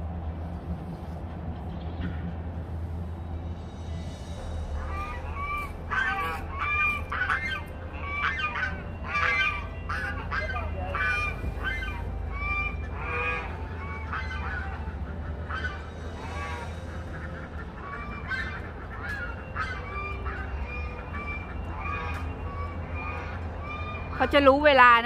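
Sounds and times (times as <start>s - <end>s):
geese honking: 4.4s - 25.0s.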